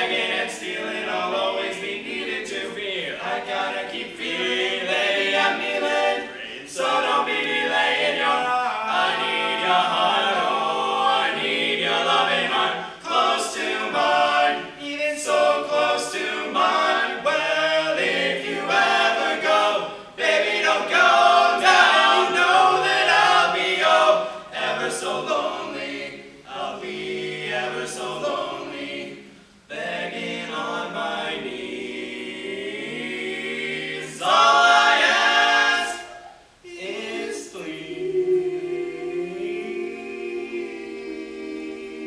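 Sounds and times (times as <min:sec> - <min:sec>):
male quartet singing a cappella: 0:00.0 - 0:42.0.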